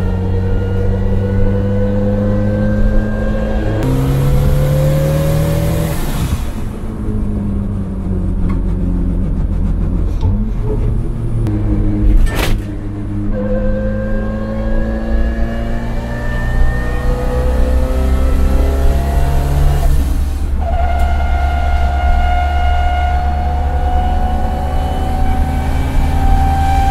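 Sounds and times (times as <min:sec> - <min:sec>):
differential whining: 0:00.0 - 0:26.9
low engine drone: 0:00.0 - 0:26.9.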